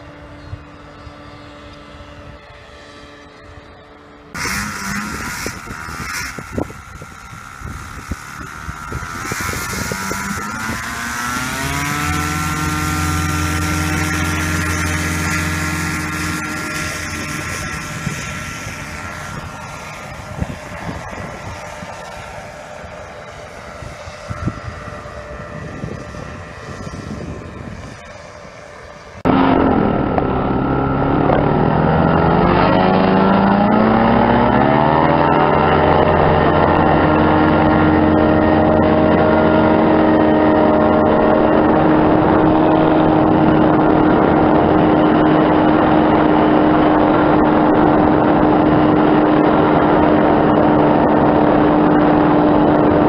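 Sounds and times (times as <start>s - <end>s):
powered hang glider engine: 0.0s - 53.0s.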